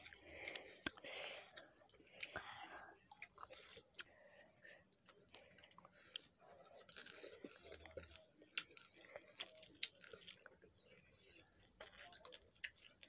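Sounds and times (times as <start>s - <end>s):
close-up chewing with smacks: 0.0s - 13.0s.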